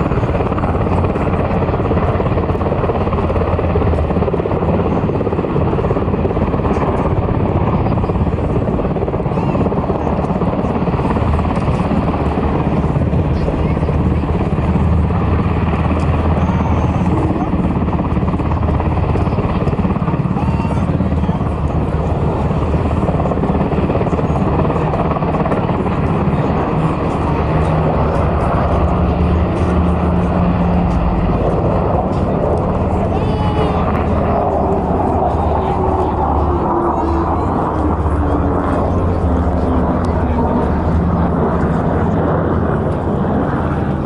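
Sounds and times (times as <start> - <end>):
helicopter rotor chop: 0.0 - 44.0.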